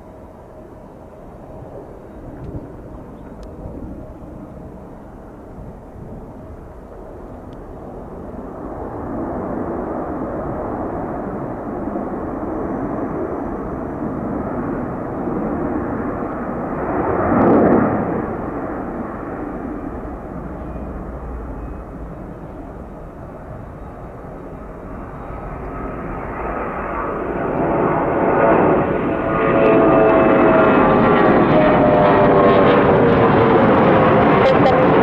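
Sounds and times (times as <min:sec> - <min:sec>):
jet airliner passing: 0:00.0 - 0:35.0.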